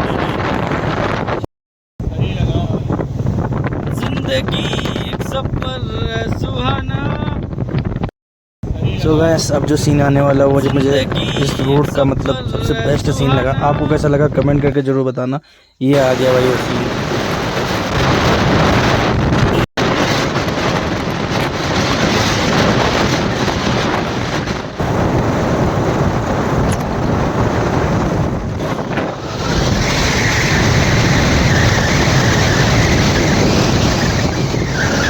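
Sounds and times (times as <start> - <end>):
wind rushing over microphone: 0.0 - 14.8, 15.9 - 35.0.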